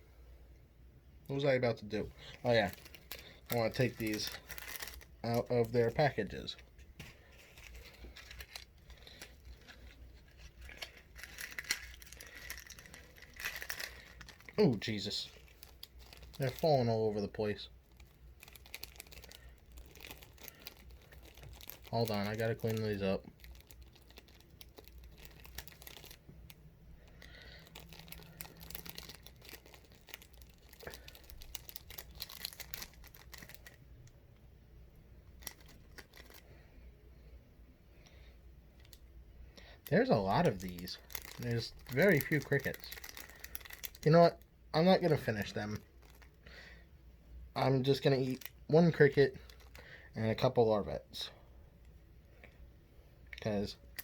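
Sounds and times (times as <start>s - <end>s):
plastic crinkling and tearing: 2.0s - 33.8s, 35.3s - 36.6s, 39.8s - 46.4s, 47.6s - 50.5s, 53.4s - 54.0s.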